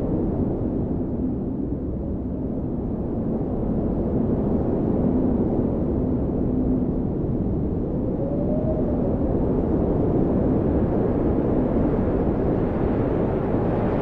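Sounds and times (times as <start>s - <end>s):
blizzard wind rushing: 0.0s - 14.0s.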